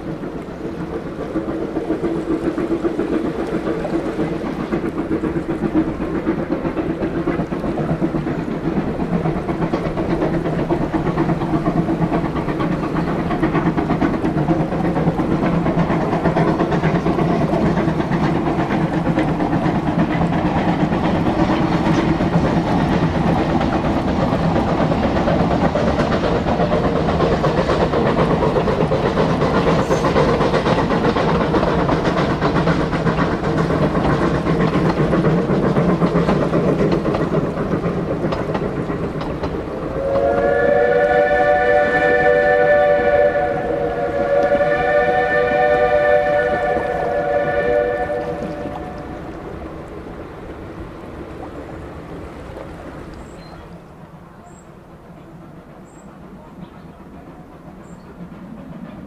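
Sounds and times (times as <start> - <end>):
steam locomotive exhaust beat: 0.0 - 59.0
train running on rails: 0.0 - 59.0.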